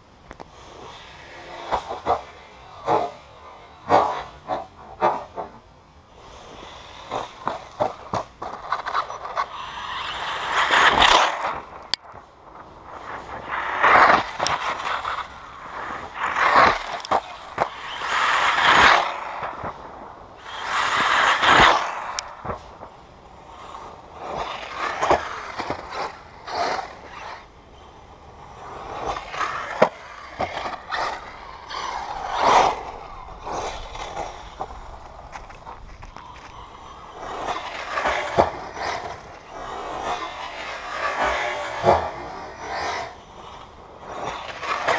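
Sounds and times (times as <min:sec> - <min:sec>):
radio-controlled buggy passing: 0:00.0 - 0:44.9
tyres scrabbling on dirt: 0:06.2 - 0:44.9.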